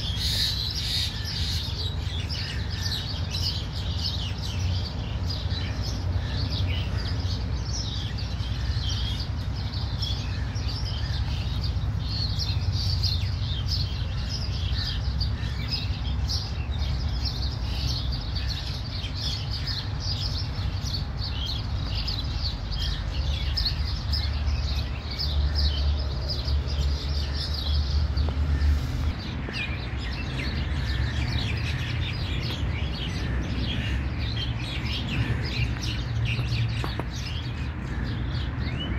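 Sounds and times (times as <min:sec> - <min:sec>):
wild birds chirping: 0:00.0 - 0:38.9.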